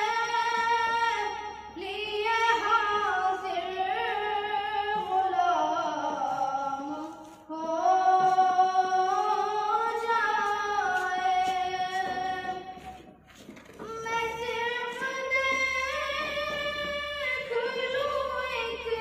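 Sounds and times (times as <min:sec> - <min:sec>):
boy singing: 0:00.0 - 0:13.0, 0:13.8 - 0:19.0.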